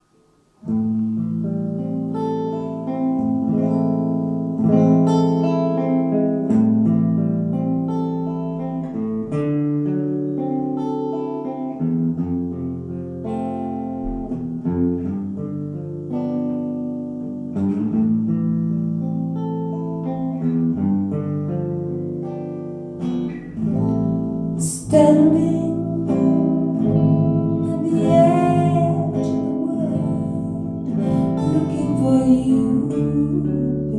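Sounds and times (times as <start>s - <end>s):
acoustic guitar chords: 0.0s - 33.9s
small band playing slow song: 0.7s - 33.9s.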